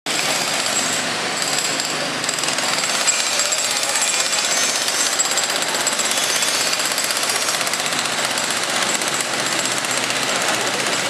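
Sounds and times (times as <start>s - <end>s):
pneumatic jackhammer hammering: 0.1s - 11.0s.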